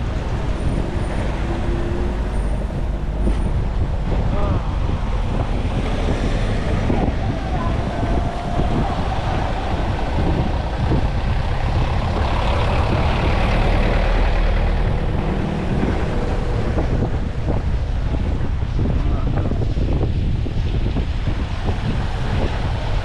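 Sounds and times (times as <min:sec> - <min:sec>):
truck engine running: 0:00.0 - 0:19.4.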